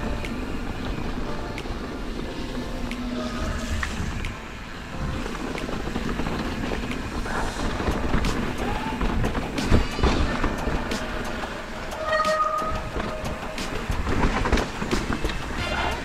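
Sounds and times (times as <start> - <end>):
clicks from bumps: 0.0 - 15.6
bike rattling: 0.0 - 16.0.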